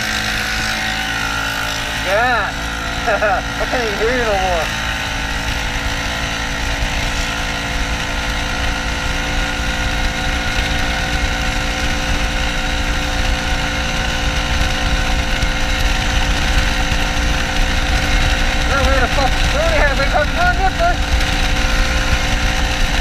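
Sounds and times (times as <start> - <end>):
constant rushing noise: 0.0 - 23.0
snowmobile engine running: 0.0 - 23.0.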